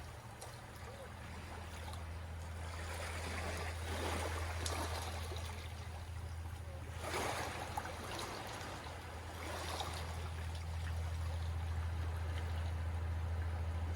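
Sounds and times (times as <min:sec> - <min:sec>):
steady low hum: 0:00.0 - 0:13.9
waves lapping at shore: 0:00.0 - 0:13.9.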